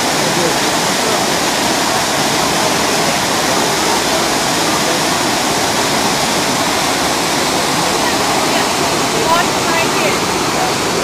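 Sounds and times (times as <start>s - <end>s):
waterfall splashing into pool: 0.0s - 11.0s.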